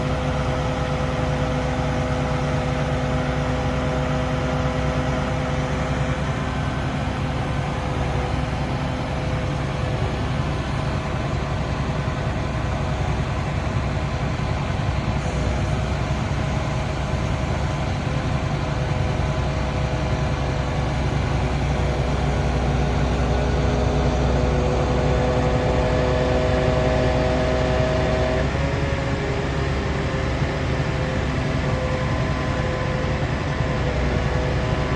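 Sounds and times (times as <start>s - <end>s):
engine deep rumble: 0.0s - 34.9s.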